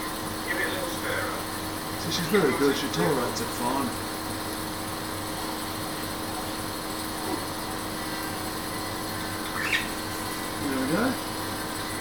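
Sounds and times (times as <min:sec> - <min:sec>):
nebulizer compressor humming: 0:00.0 - 0:12.0.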